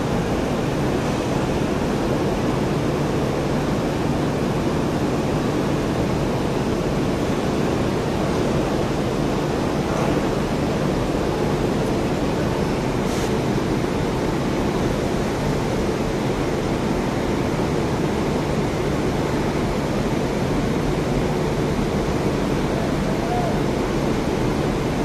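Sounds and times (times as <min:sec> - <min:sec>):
electric locomotive humming: 0:00.0 - 0:25.0.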